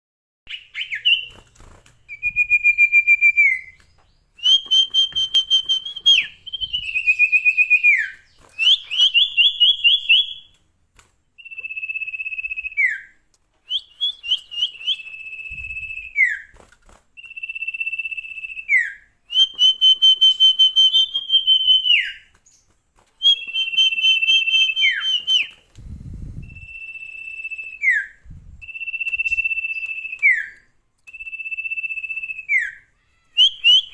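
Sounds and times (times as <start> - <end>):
songbird singing whistled phrases: 0.5 - 1.4, 2.1 - 10.6, 11.4 - 16.6, 17.2 - 22.6, 23.2 - 33.9.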